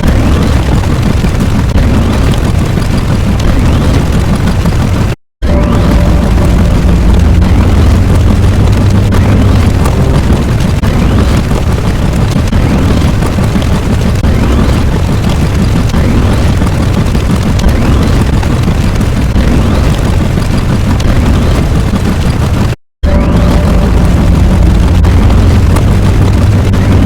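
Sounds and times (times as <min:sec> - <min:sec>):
deep explosion rumble: 0:00.0 - 0:22.1, 0:23.0 - 0:27.0.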